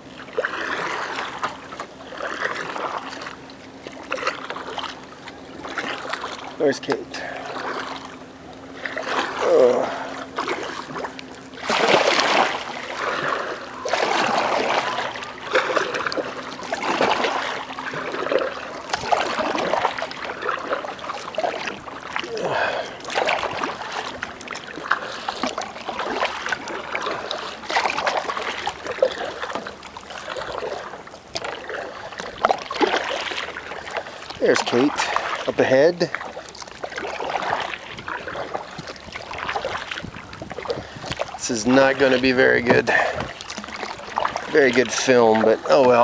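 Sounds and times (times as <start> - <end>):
paddle splashing in water: 0.0 - 46.0.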